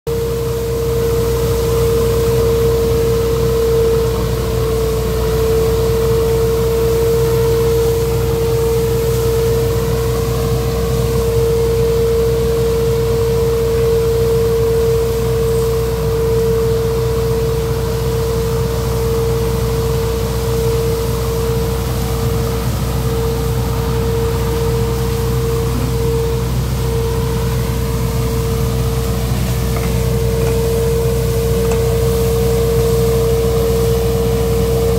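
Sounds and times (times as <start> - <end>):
nut sweeper engine drone with whine: 0.1 - 34.9.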